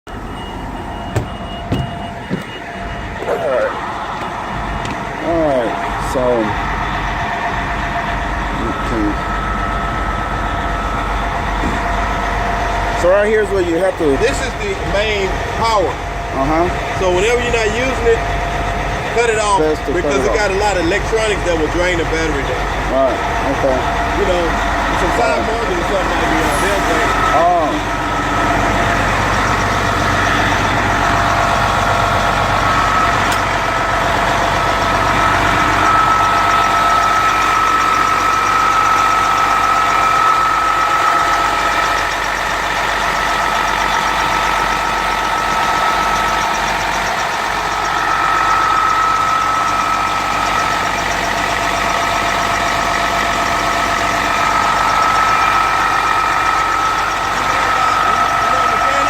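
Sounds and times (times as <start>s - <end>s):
diesel engine idling: 0.0s - 59.0s
high whine: 0.1s - 59.0s.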